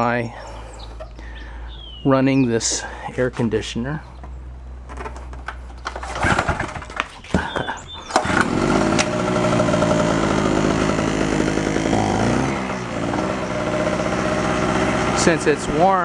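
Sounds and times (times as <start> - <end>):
generator engine running: 0.0 - 16.0
recoil starter pulls: 0.0 - 16.0.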